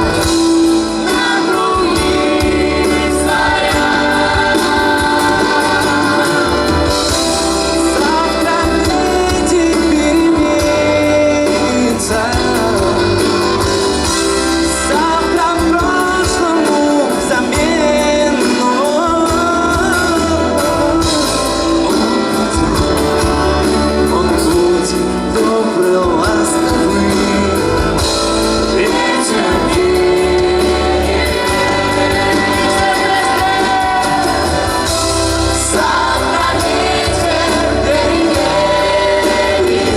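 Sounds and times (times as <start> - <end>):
live band music: 0.0 - 39.9
several voices singing: 0.0 - 39.9.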